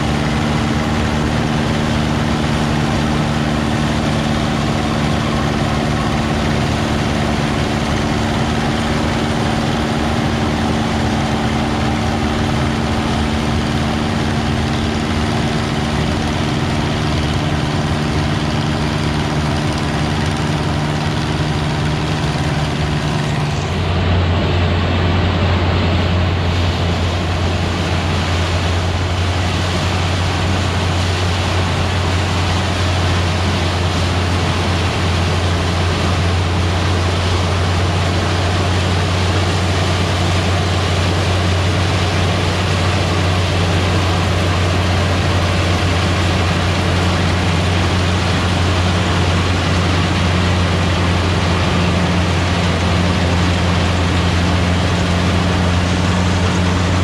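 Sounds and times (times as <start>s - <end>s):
deep steady drone: 0.0s - 57.0s
harvesting machinery engines: 0.0s - 57.0s.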